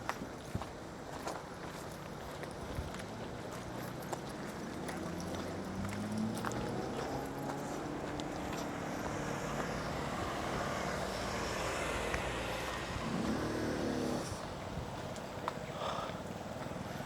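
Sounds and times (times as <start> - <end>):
road noise: 2.2 - 17.0.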